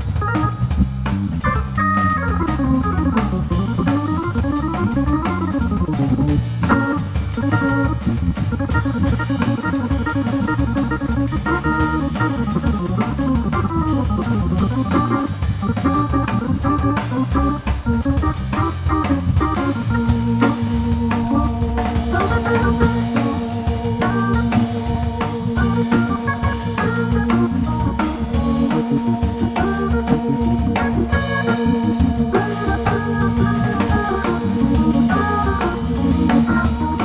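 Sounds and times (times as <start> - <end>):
drum kit and cymbals swing beat: 0.0 - 37.0
organ playing quick lines: 0.0 - 37.0
walking bass line: 0.0 - 37.0.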